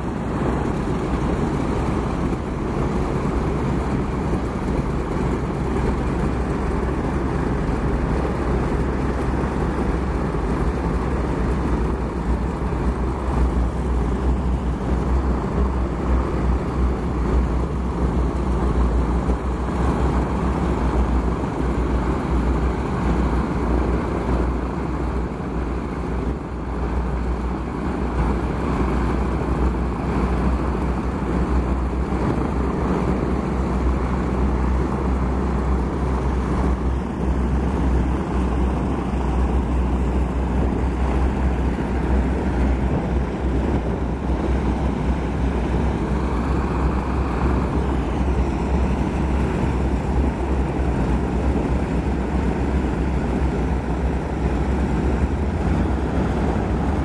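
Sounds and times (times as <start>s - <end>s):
radial engines rumbling: 0.0s - 57.0s.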